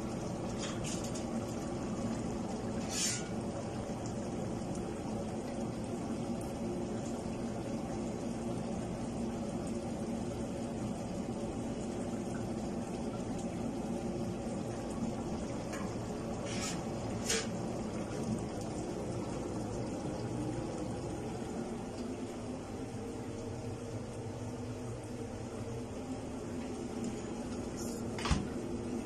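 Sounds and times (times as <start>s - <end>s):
pots bubbling: 0.0s - 29.0s.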